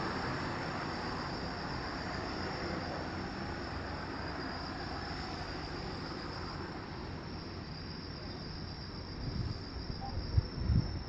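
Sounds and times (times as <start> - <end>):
insect trill: 0.0 - 11.0
low rumble of distant traffic: 0.0 - 11.0.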